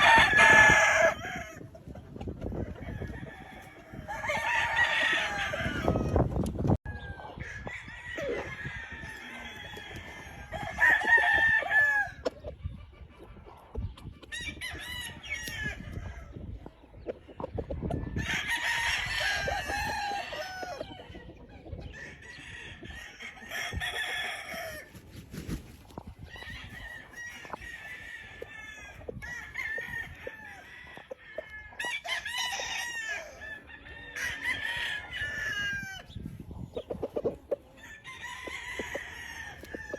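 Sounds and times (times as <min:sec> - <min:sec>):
roosters crowing: 0:00.0 - 0:12.3, 0:14.3 - 0:16.5, 0:17.9 - 0:39.9.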